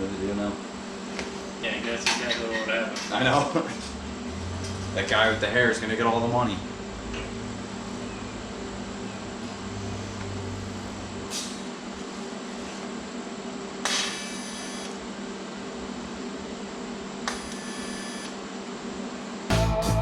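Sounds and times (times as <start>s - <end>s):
steady shop hum: 0.0s - 20.0s.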